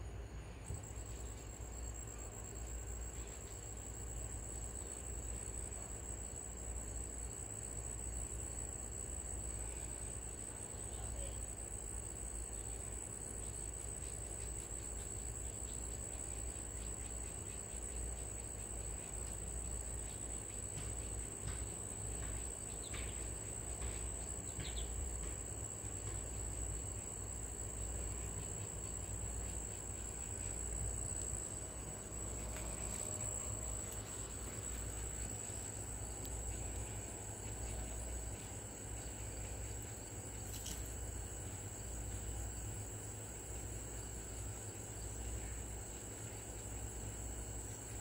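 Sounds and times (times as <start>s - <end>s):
cricket trilling: 0.0s - 48.0s.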